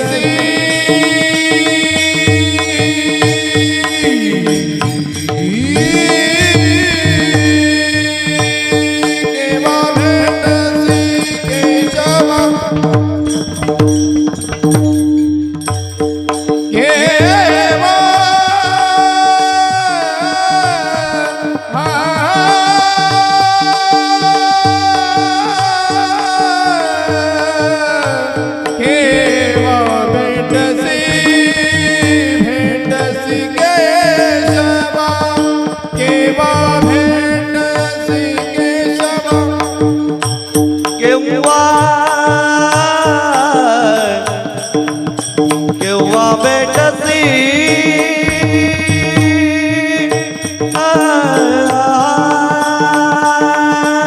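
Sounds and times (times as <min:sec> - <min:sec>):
person singing devotional song: 0:00.0 - 0:15.0, 0:16.3 - 0:54.0
drum strokes: 0:00.0 - 0:54.0.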